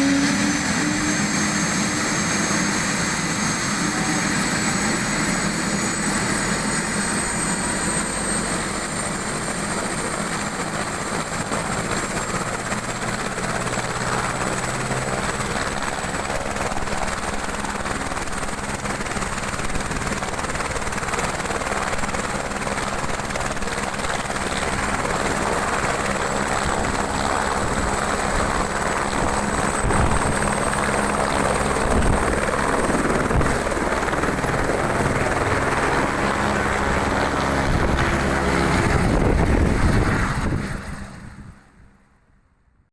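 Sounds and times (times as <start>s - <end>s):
high turbine whine: 0.0s - 10.4s, 11.8s - 41.7s
helicopter rotor noise: 0.0s - 41.8s.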